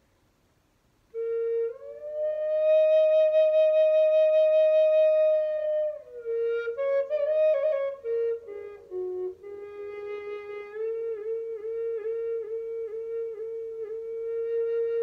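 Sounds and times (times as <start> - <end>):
flute playing slow melody: 1.1 - 15.0.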